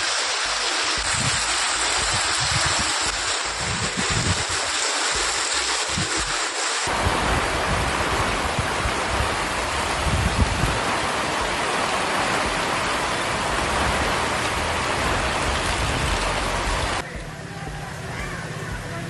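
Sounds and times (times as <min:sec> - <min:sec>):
heavy rain on pavement: 0:00.0 - 0:17.0.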